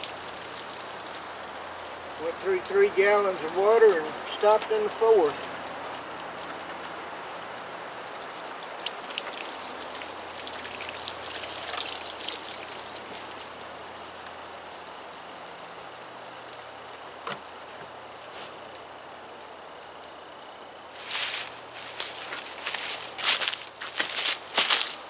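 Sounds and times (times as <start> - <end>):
water splattering onto ground: 0.0 - 17.8, 20.9 - 25.0.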